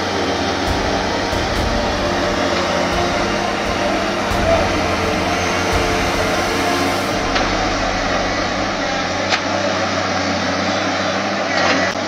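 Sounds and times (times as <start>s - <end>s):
excavator engine droning: 0.0s - 11.8s.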